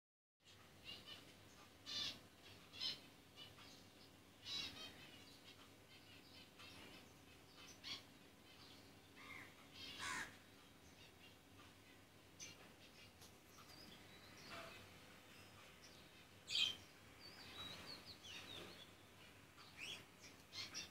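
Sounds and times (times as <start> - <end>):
bird trilling calls: 0.8 - 7.0, 7.6 - 11.8, 12.4 - 20.9.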